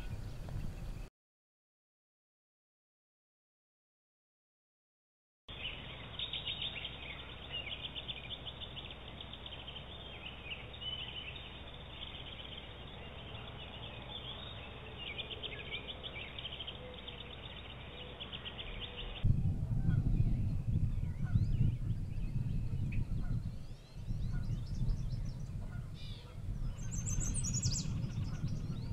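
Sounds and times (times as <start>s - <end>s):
songbirds chirping and trilling: 0.0s - 1.1s, 5.5s - 28.9s.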